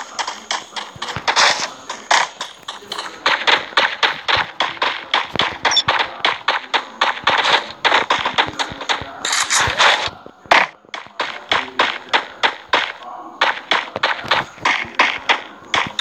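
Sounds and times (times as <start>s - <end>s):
noisy burst: 0.0s - 16.0s
rapid sharp knocks: 0.0s - 16.0s.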